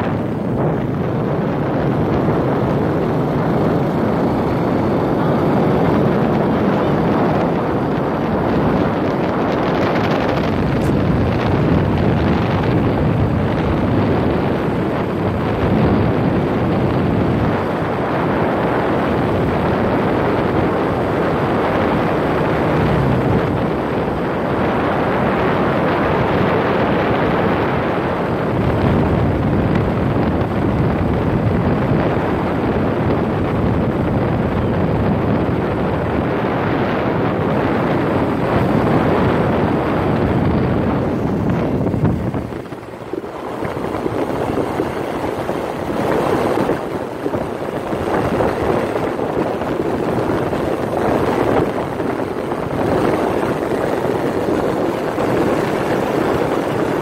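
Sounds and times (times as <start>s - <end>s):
scooter engine running: 0.0s - 57.0s
wind rushing on microphone: 0.0s - 57.0s.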